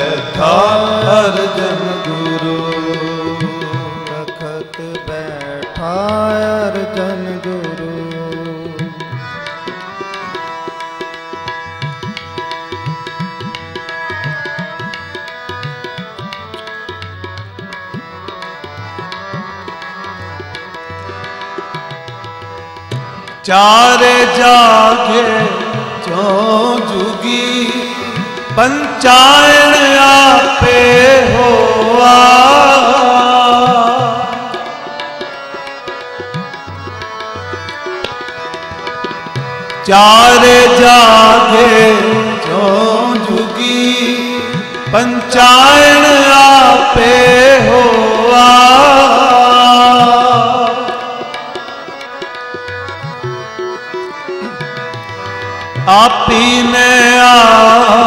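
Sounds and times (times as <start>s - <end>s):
held harmonium notes: 0.0s - 58.0s
tabla playing busy rhythm: 0.0s - 58.0s.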